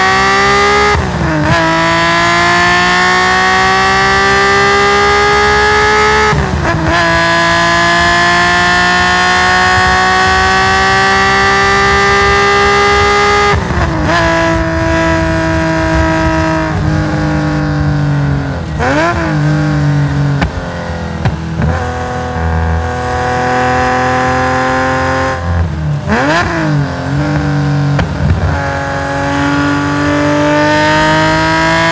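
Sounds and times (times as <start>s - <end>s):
race car engine revving: 0.0s - 31.9s.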